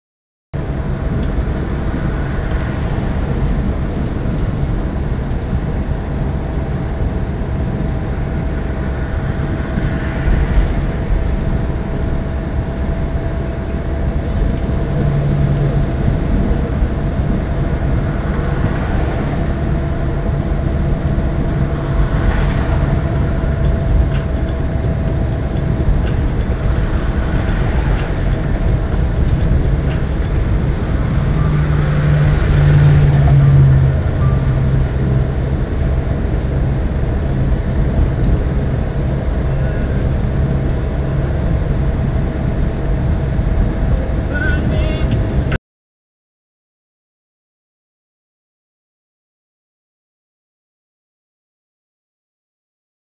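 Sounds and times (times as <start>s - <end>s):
road noise: 0.6s - 45.6s
truck engine drone: 0.6s - 45.6s.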